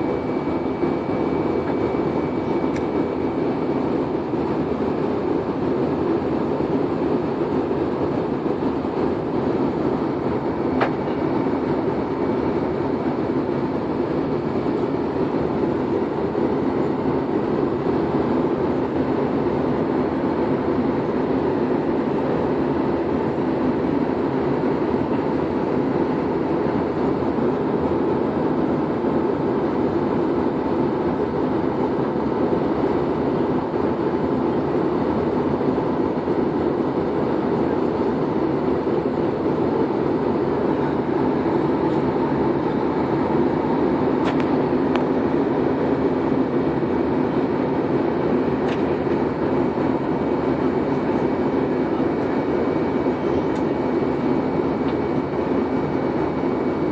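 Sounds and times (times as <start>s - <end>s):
airliner cabin engine rumble: 0.0s - 56.9s.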